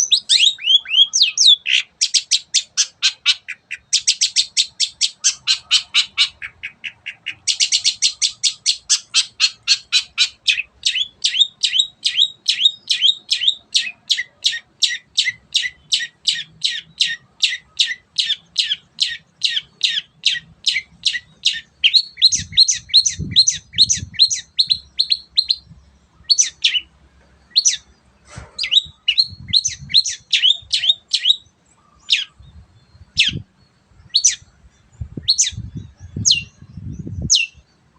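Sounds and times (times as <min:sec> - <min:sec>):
bird singing sharp notes: 0:00.0 - 0:37.7.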